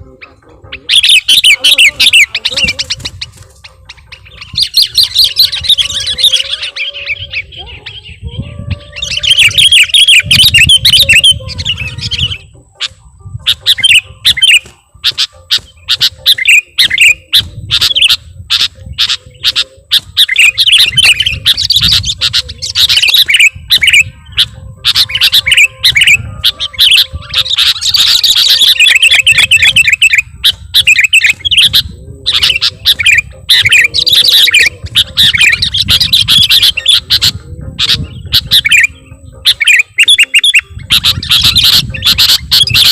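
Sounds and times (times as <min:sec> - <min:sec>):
birds chirping rapidly: 0:00.0 - 0:42.9.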